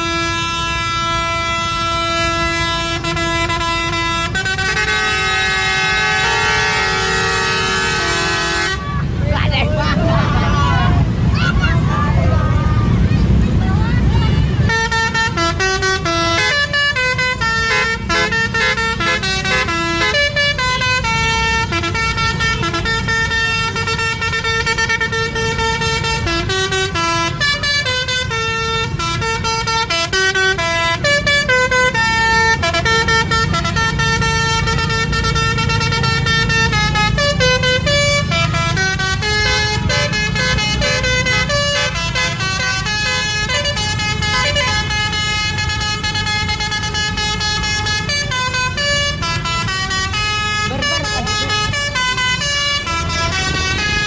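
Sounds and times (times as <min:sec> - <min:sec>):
musical air horn: 0:00.0 - 0:09.0, 0:14.5 - 0:54.0
bus engine running: 0:00.0 - 0:54.0.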